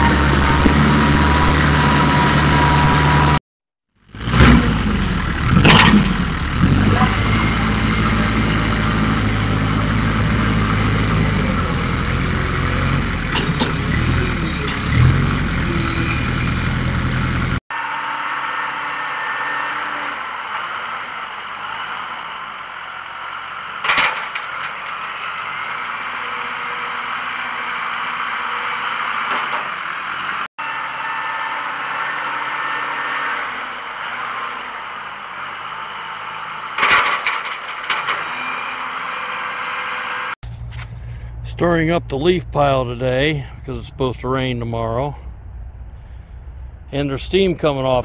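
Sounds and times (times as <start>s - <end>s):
tractor engine revving: 0.0s - 3.4s, 4.0s - 48.0s.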